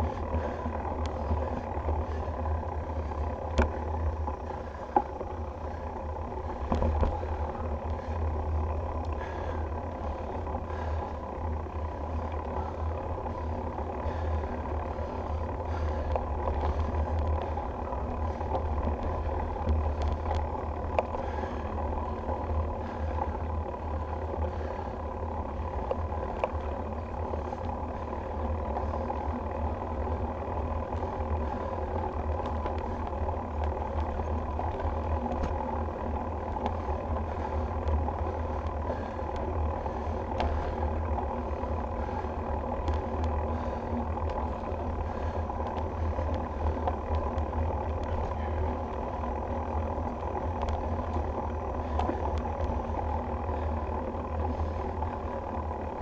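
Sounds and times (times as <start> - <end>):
tyres humming on pavement: 0.0 - 56.0
wheels knocking over bumps: 0.0 - 56.0.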